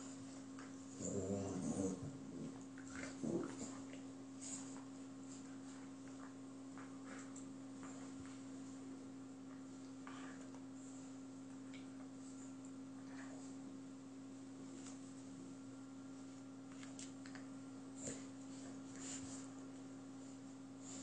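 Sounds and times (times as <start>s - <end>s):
dogs scuffling and clicking on floor: 0.0s - 13.3s, 16.4s - 21.0s
steady low hum: 0.0s - 21.0s.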